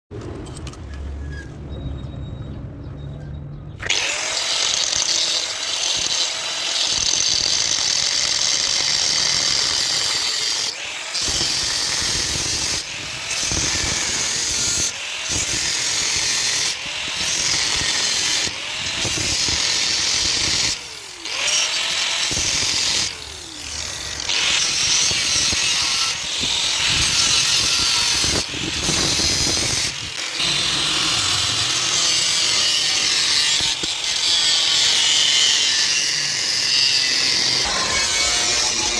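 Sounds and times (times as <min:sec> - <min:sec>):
power tool working metal: 0:03.8 - 0:38.9.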